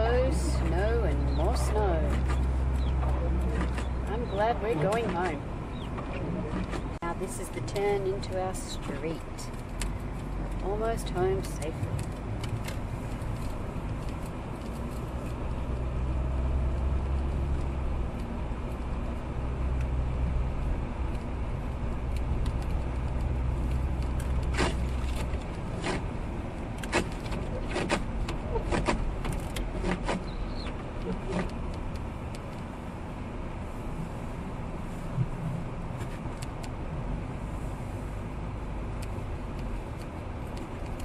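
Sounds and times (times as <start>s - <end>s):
car engine and road rumble: 0.0s - 41.0s.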